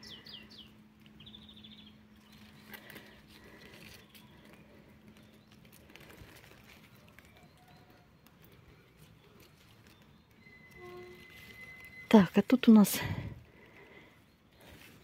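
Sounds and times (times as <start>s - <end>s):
bird chirping: 0.0s - 12.8s.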